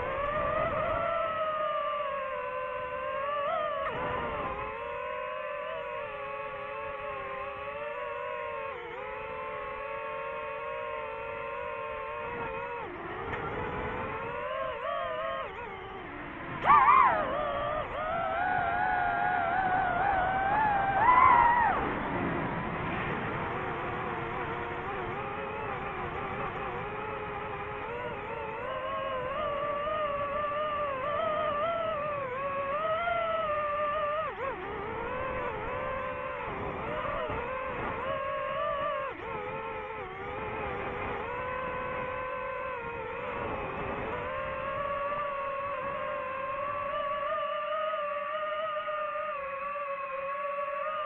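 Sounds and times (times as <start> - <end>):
drone propellers whining: 0.0 - 51.0.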